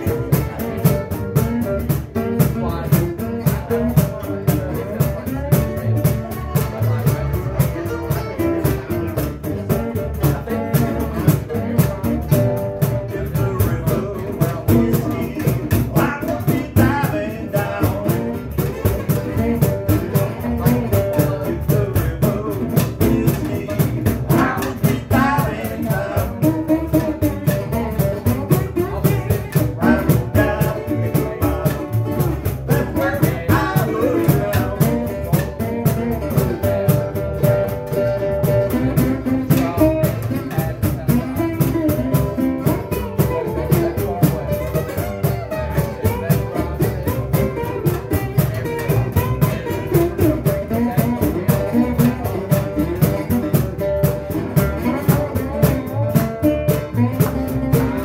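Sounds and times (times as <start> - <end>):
cajon beat: 0.0 - 58.0
double bass: 0.0 - 58.0
guitars: 0.0 - 58.0.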